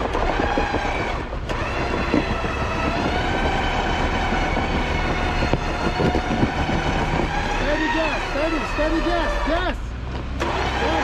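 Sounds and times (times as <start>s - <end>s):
off-road vehicle engine under load: 0.0s - 11.0s.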